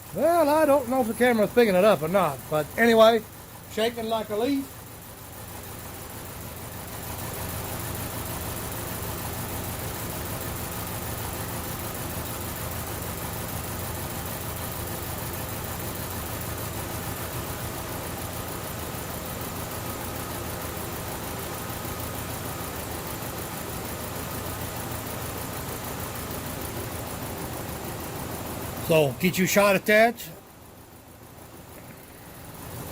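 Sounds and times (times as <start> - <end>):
car engine idling roughly: 0.0 - 32.9.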